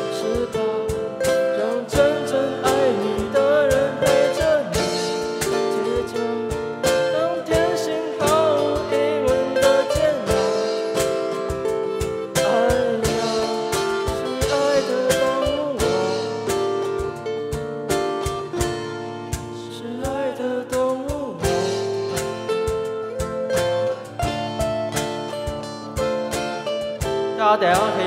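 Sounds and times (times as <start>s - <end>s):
acoustic guitars playing chords: 0.0s - 28.0s
cajon beat: 0.0s - 28.0s.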